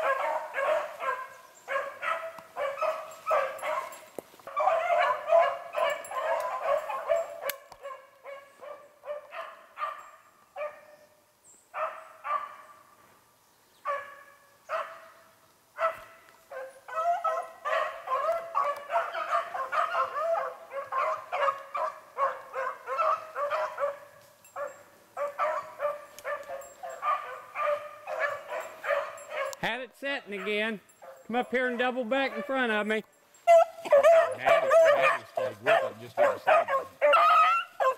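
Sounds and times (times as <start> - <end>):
dogs baying: 0.0 - 10.8, 15.8 - 29.6, 30.3 - 32.8, 33.4 - 37.9.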